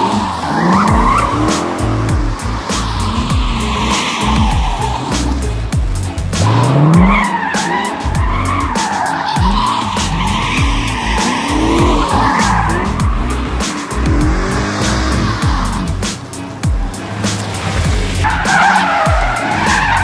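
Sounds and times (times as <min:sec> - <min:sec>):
car engine revving hard: 0:00.0 - 0:20.0
tyres squealing and skidding: 0:00.0 - 0:20.0.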